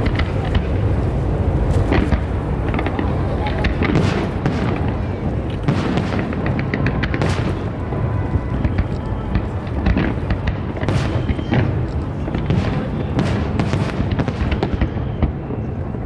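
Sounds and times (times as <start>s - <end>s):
fireworks booms and crackles: 0.0s - 16.0s.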